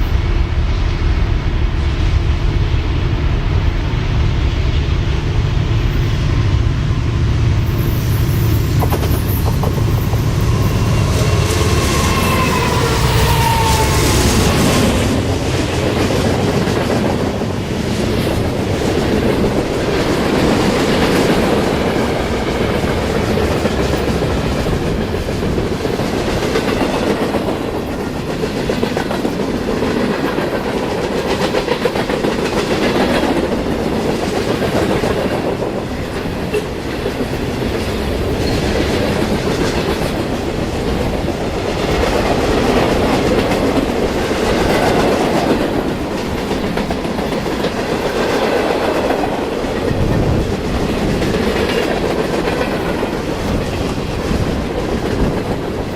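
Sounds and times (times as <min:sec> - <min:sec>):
train wheels clacking over rails: 0:07.5 - 0:55.9.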